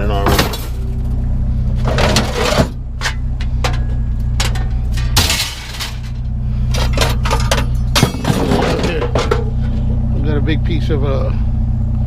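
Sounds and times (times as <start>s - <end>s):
scrap metal clanking: 0.0s - 10.0s
low engine drone: 0.0s - 12.0s.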